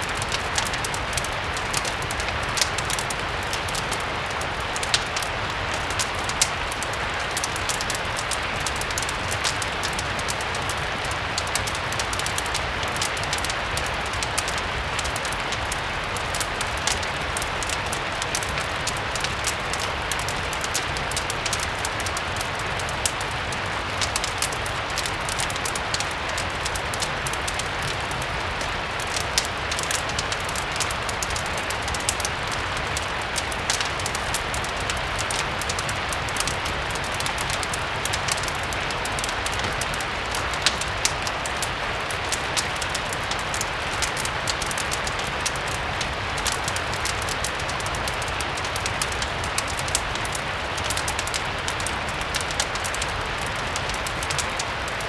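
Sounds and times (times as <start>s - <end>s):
steady rain hiss: 0.0s - 55.0s
wood fire crackling: 0.0s - 55.0s.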